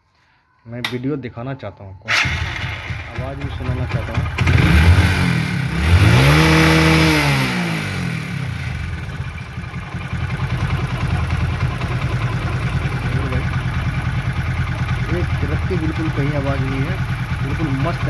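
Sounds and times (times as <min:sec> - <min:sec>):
motorcycle engine revving and idling: 0:02.1 - 0:18.0.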